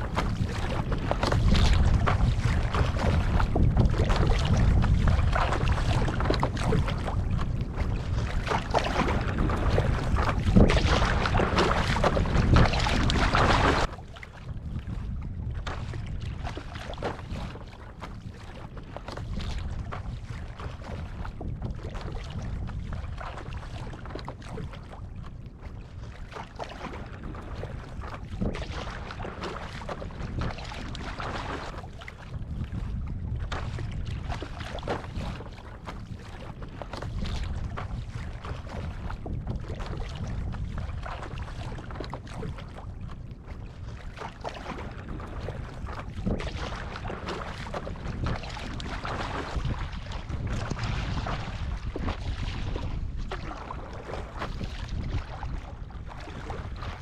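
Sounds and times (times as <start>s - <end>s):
water sloshing and splashing: 0.0s - 57.0s
wind buffeting microphone: 0.0s - 57.0s.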